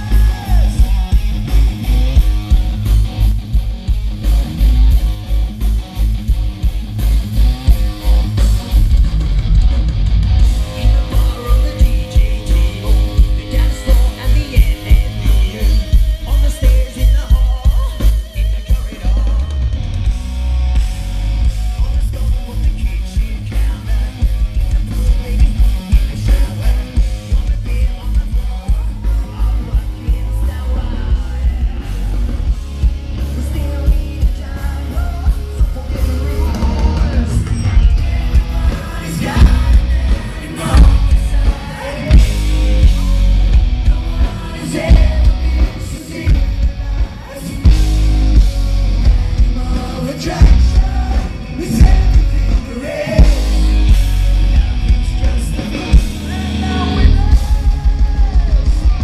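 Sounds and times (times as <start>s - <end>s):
man singing: 0.0s - 3.1s, 10.4s - 19.8s, 21.5s - 59.0s
live rock band: 0.0s - 59.0s.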